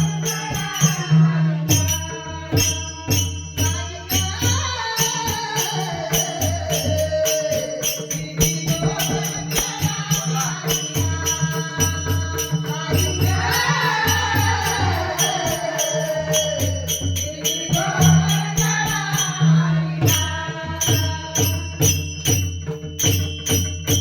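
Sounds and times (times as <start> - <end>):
woman singing: 0.0 - 22.0
jingling hand percussion: 0.0 - 24.0.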